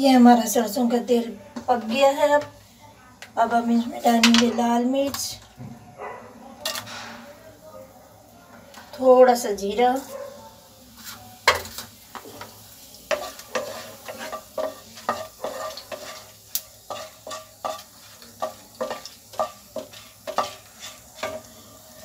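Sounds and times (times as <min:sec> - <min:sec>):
spices sizzling in hot oil: 0:00.0 - 0:05.6, 0:06.6 - 0:22.0.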